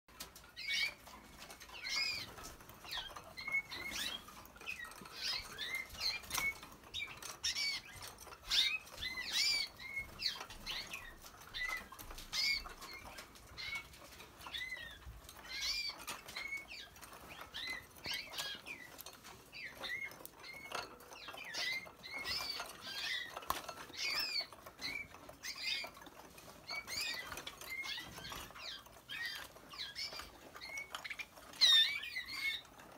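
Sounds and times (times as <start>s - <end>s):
canaries chirping: 0.1s - 32.9s.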